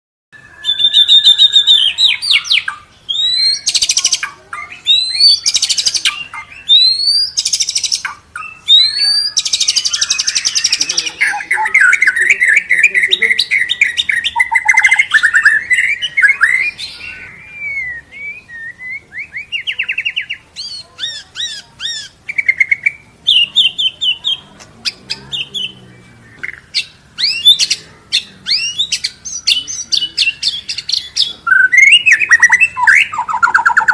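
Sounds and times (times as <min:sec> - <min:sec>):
songbird singing: 0:00.4 - 0:33.9.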